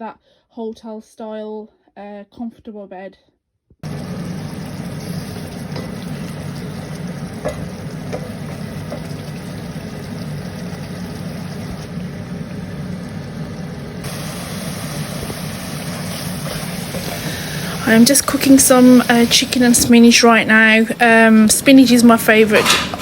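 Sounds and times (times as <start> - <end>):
food sizzling in a pan: 3.8 - 23.0.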